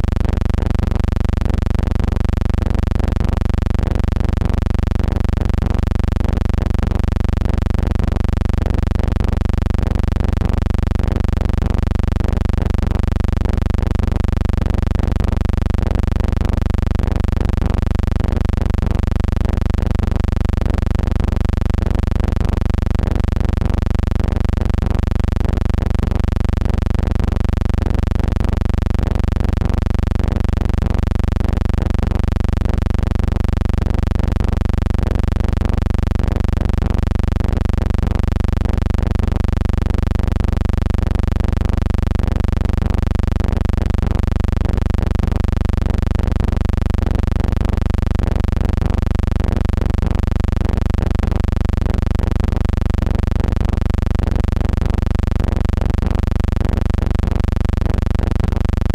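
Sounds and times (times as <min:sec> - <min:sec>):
steady low hum: 0:00.0 - 0:55.3.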